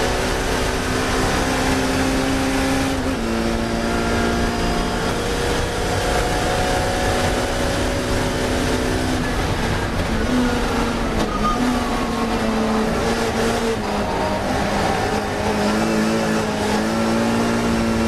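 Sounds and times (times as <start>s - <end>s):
racing car engine at high revs: 0.0s - 18.0s
road and wind noise: 0.0s - 18.0s.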